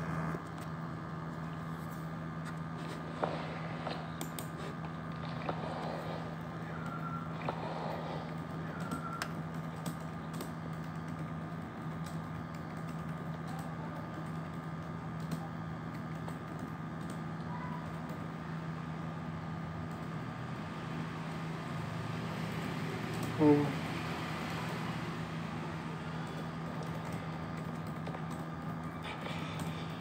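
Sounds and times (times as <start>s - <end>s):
low room hum with tones: 0.0s - 30.0s.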